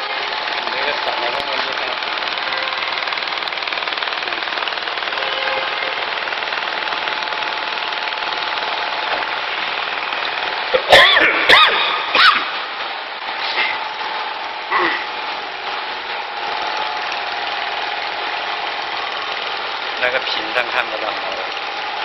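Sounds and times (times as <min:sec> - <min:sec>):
laser welder crackling buzz: 0:00.0 - 0:22.0.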